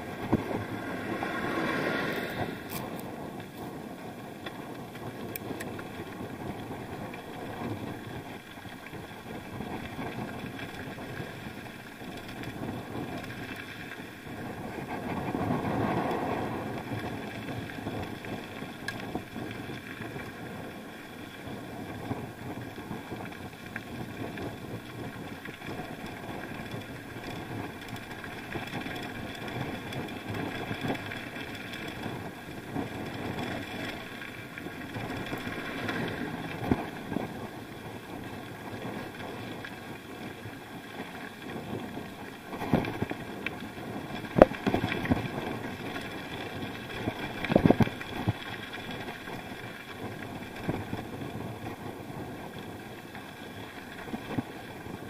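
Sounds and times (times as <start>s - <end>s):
bike ride rumbling: 0.0s - 55.0s.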